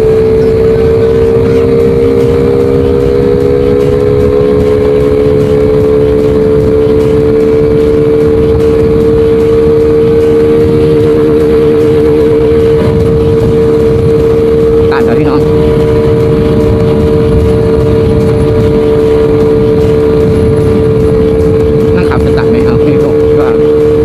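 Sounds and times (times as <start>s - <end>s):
loud engine intake sound: 0.0s - 24.0s
motorcycle engine running: 0.0s - 24.0s.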